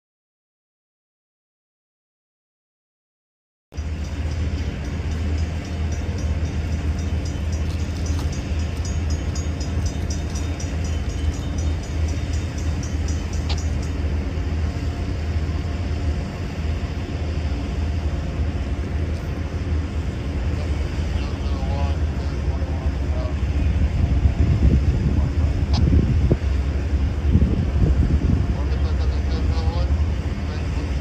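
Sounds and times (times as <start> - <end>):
distant train rumble: 3.8 - 31.0.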